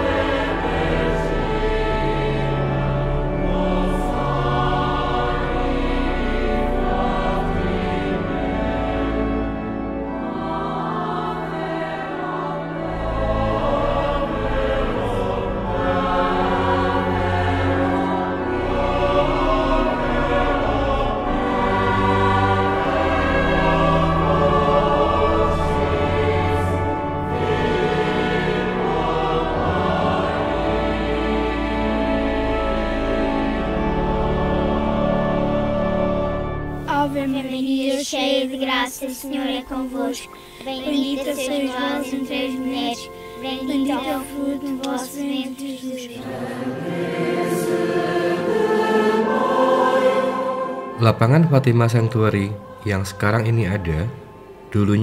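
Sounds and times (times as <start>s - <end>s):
choir singing long notes: 0.0s - 55.0s.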